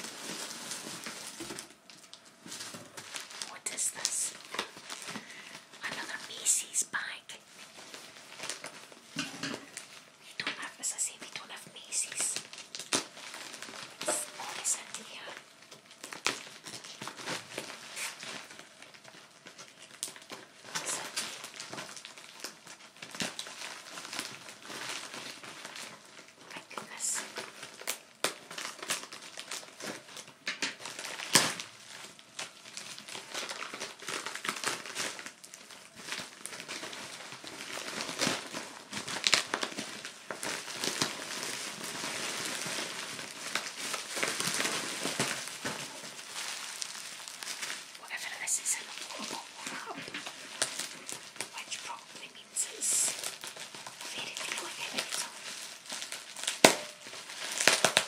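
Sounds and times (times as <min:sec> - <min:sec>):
plastic packaging crinkling: 0:00.0 - 0:58.0.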